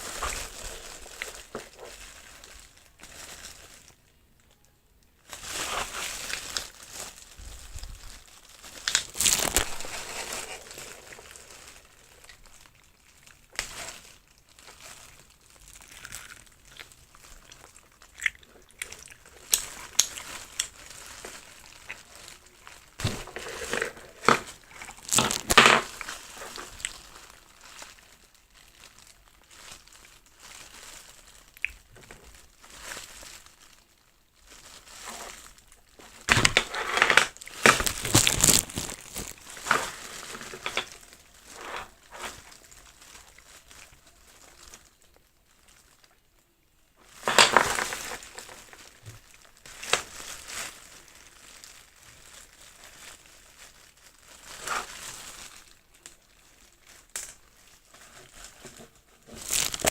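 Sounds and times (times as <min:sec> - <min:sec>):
plastic packaging crinkling: 0:00.0 - 0:59.9.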